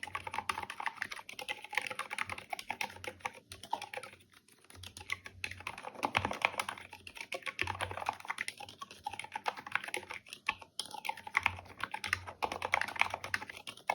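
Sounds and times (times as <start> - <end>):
fast typing on mechanical keyboard: 0.0 - 13.9.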